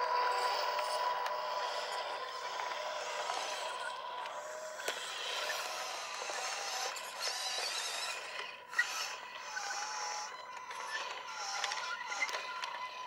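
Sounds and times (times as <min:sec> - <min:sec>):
small electric motors whining: 0:00.0 - 0:13.0.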